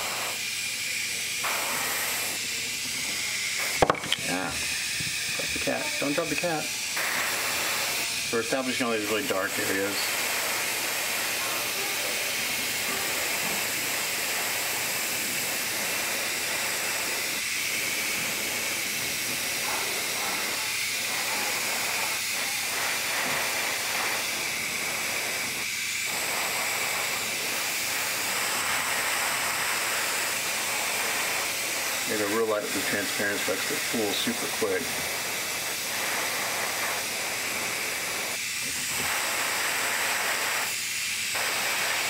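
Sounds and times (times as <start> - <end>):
airbrush hiss: 0.0 - 42.0.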